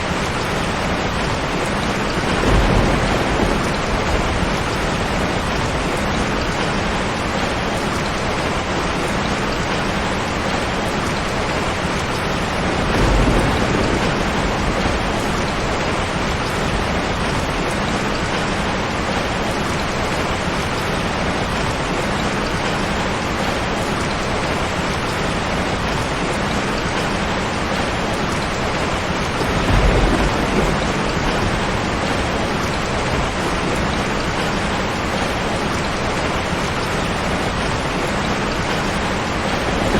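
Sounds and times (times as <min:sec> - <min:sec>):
low thunder rolls: 0:00.0 - 0:21.7, 0:25.4 - 0:39.9
heavy rain on a tin roof: 0:00.0 - 0:39.9.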